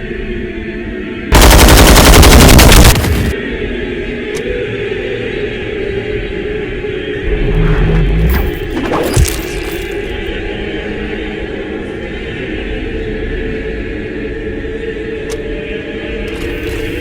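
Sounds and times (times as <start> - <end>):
choir-like chanting: 0.0 - 17.0.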